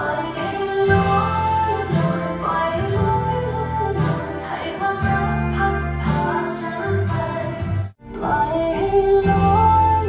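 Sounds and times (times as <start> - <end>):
song over loudspeakers: 0.0 - 10.0.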